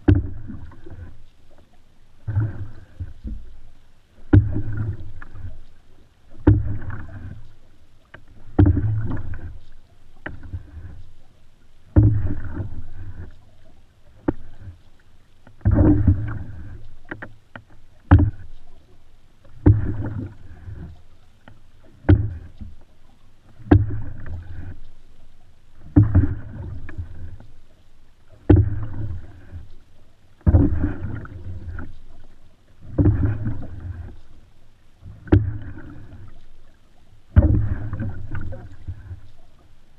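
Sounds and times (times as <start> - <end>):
paddle knocking on canoe: 0.0 - 1.2, 4.2 - 5.7, 6.3 - 14.8, 15.4 - 24.9, 25.8 - 27.6, 28.2 - 34.4, 35.0 - 39.6
water rushing: 0.0 - 39.9.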